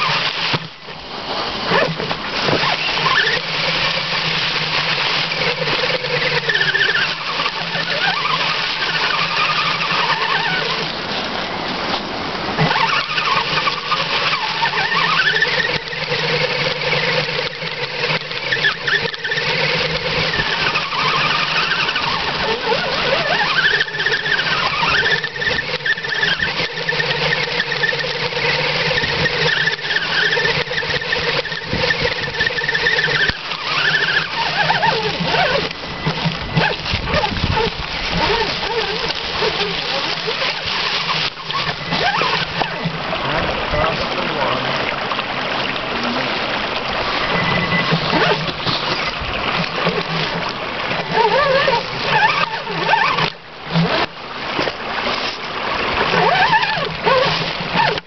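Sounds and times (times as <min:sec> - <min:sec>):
electric motor and gears whining: 0:00.0 - 0:58.0.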